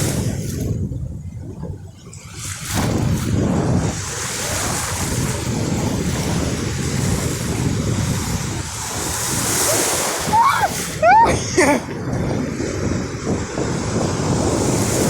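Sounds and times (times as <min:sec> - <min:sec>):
wind buffeting microphone: 0:00.0 - 0:15.0
ocean surf breaking: 0:02.8 - 0:15.0.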